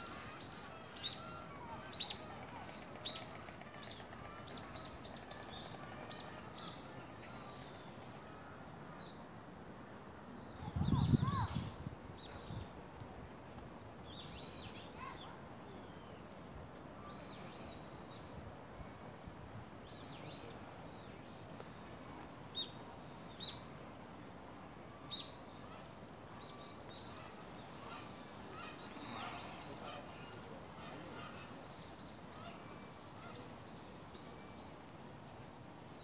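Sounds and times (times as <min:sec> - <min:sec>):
faint steady background noise: 0:00.0 - 0:36.0.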